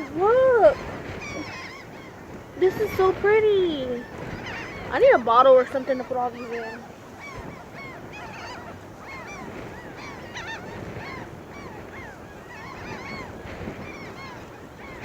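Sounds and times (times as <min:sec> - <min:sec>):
flock of birds calling: 0:00.0 - 0:15.0
wind: 0:00.0 - 0:15.0.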